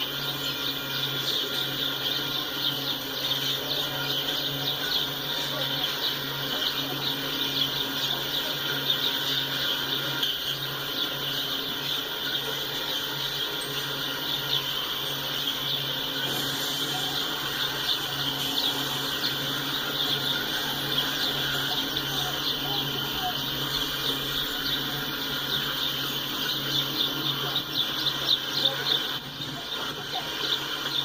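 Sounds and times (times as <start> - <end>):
insects chirping: 0.0 - 31.0
low pulsing hum: 0.0 - 31.0.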